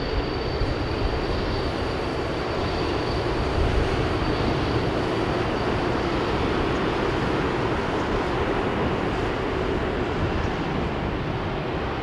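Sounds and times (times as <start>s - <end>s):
high jet engine whine: 0.0s - 12.0s
jet engines rumbling at low thrust: 0.0s - 12.0s.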